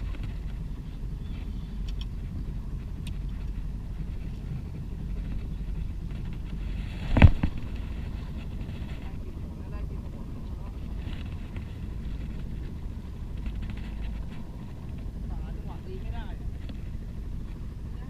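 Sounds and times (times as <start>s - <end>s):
low rumble of boat: 0.0s - 18.0s.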